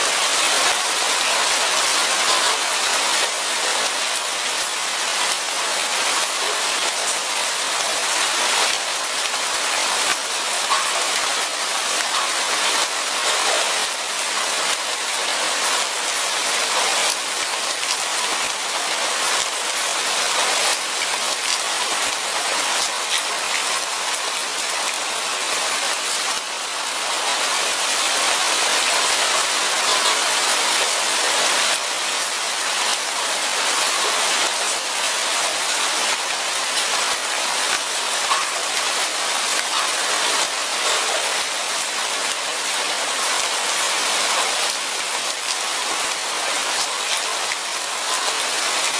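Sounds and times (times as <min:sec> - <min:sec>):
light rain on leaves: 0:00.0 - 0:48.9.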